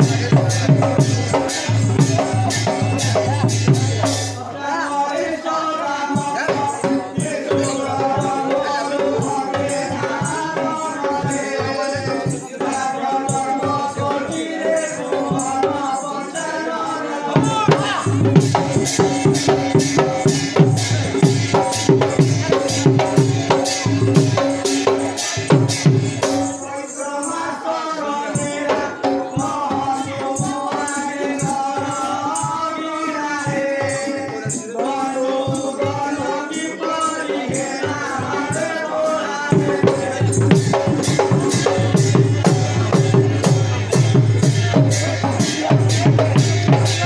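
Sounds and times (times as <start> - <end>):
jingling percussion: 0.0 - 47.0.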